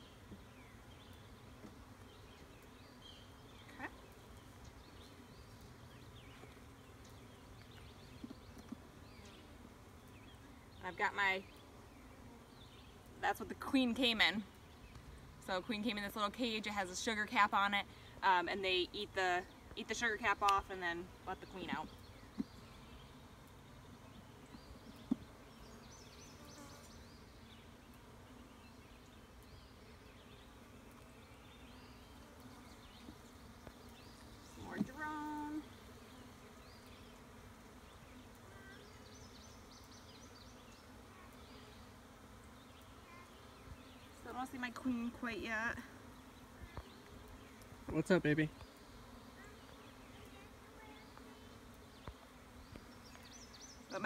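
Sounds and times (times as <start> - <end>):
faint bees buzzing: 0.0 - 54.0.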